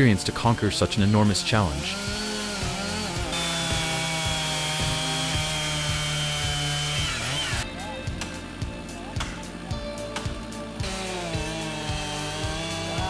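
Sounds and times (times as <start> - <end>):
chainsaw cutting tree trunk: 0.0 - 8.6, 9.2 - 13.0
background music with beat: 2.1 - 13.0.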